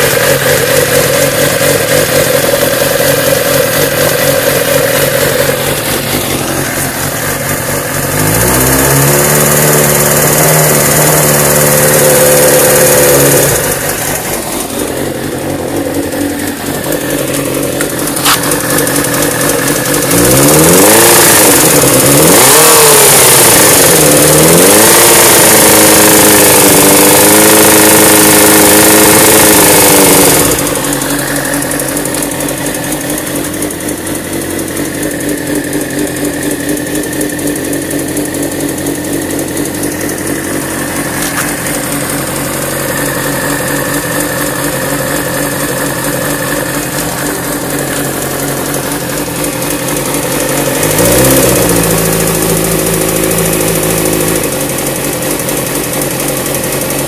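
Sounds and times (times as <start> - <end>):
engine ticking noise: 0.0 - 57.0
motorcycle engine revving and idling: 0.0 - 57.0.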